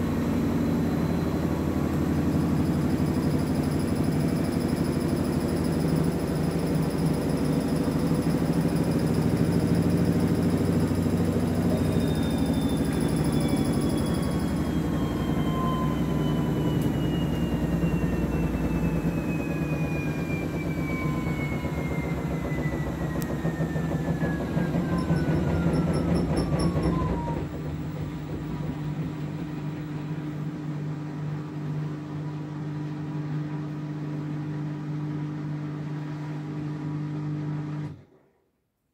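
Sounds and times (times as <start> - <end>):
washing machine drum rumble and whine: 0.0 - 38.4.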